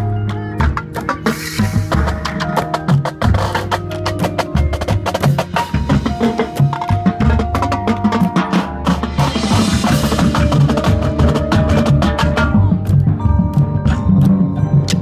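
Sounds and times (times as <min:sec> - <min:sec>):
marching drumline playing: 0:00.7 - 0:14.5.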